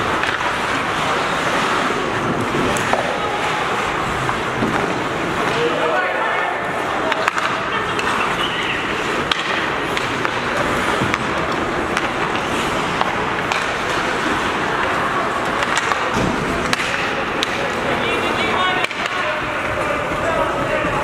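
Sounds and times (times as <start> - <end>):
skates scraping on ice: 0.0 - 21.0
sticks and puck clacking: 0.0 - 21.0.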